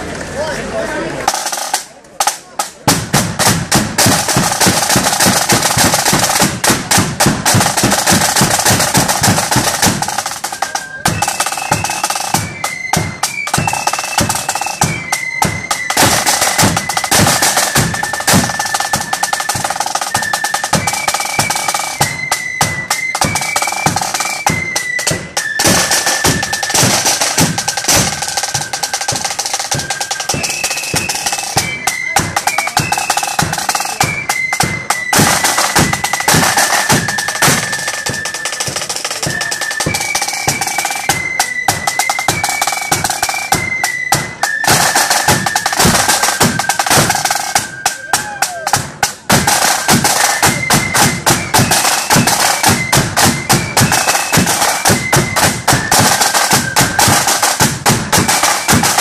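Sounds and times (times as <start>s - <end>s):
snare drums beating a march: 1.2s - 59.0s
flutes playing high melody: 3.4s - 59.0s.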